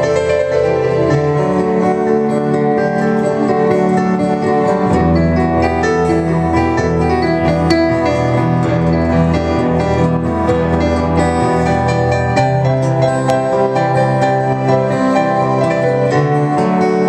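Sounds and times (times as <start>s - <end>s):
acoustic guitar: 0.0s - 17.0s
piano-like keyboard chords: 0.0s - 17.0s.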